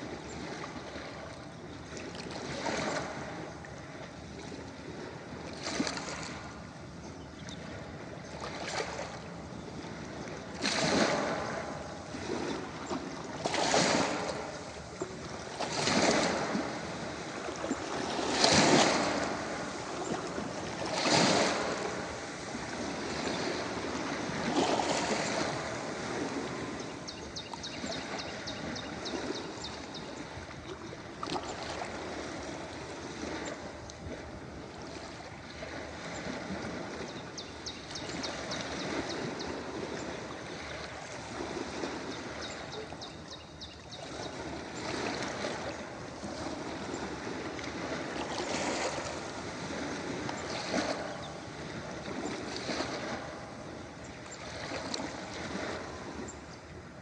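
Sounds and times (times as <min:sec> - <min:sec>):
ocean waves washing onto beach: 0:00.0 - 0:57.0.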